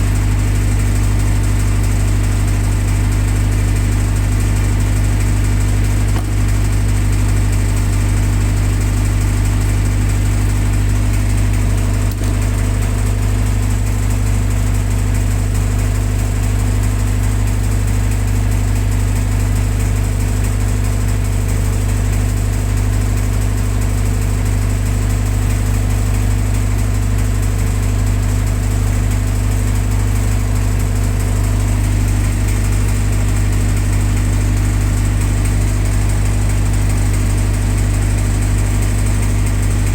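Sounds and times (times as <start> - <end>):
generator engine humming: 0.0 - 39.9.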